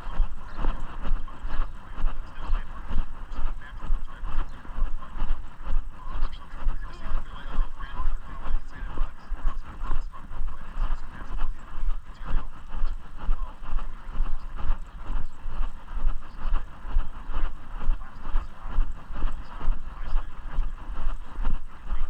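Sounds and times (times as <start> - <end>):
low rumble of wind and handling: 0.0 - 22.0.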